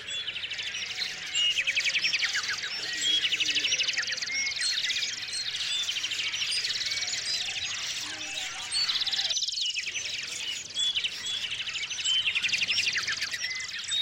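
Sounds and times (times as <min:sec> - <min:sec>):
songbirds chirping and trilling: 0:00.0 - 0:14.0.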